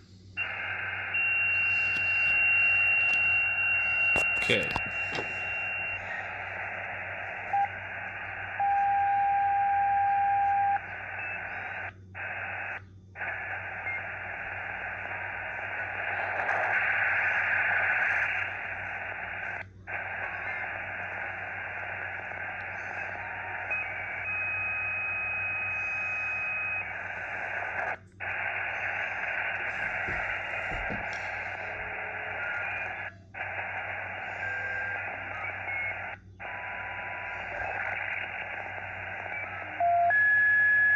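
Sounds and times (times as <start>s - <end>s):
radio receiver hiss: 0.0s - 40.9s.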